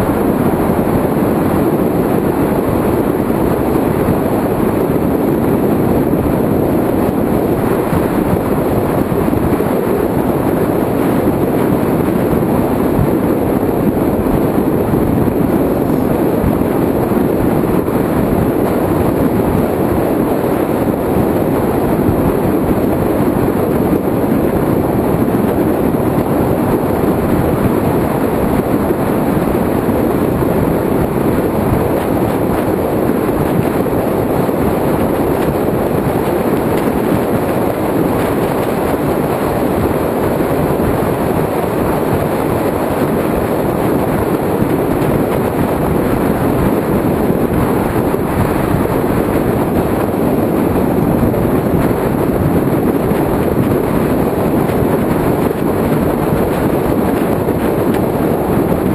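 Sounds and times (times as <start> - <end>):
wind rush and road noise: 0.0 - 58.9.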